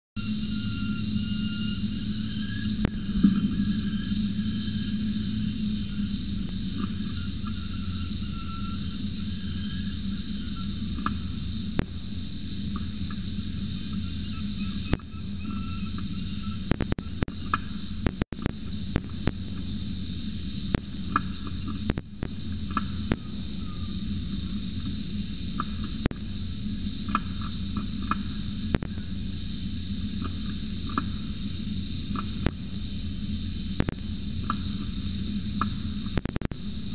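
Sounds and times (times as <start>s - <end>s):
cicadas droning: 0.2s - 36.9s
low steady hum: 0.2s - 36.9s.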